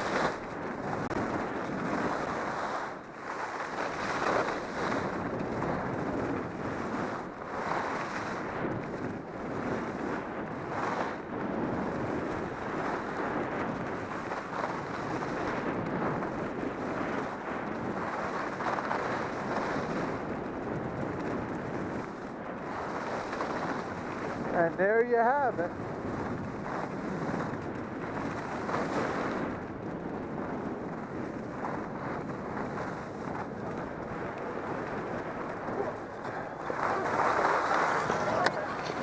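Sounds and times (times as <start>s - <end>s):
skis scraping on snow: 0.0s - 39.0s
wind over microphone: 0.0s - 39.0s.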